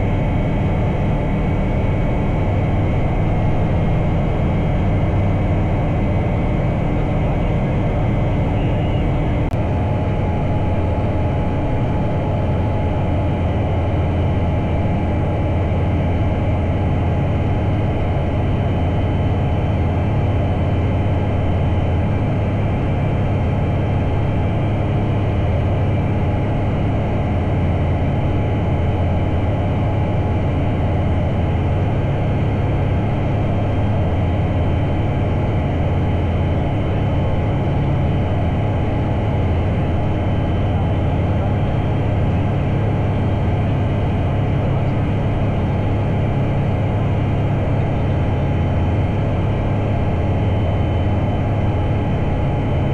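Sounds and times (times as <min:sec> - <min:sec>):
light aircraft engine droning: 0:00.0 - 0:52.9.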